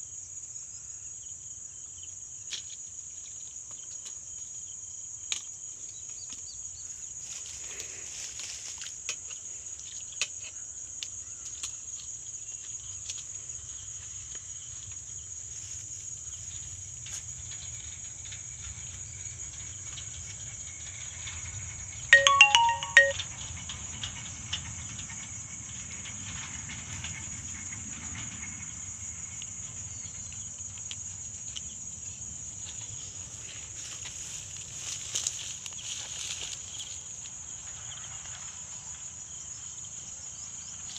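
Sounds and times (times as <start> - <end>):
crickets shrilling: 0.2 - 22.1, 27.3 - 40.9.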